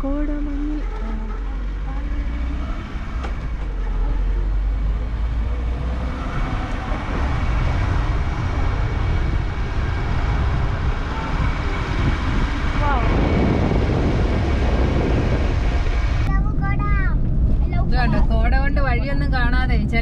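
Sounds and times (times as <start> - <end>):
vehicle engine and tyre rumble: 0.0 - 20.0.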